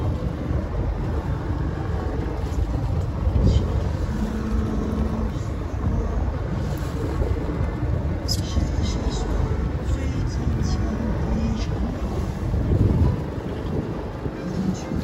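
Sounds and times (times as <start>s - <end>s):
boat rumbling on open sea: 0.0s - 15.0s.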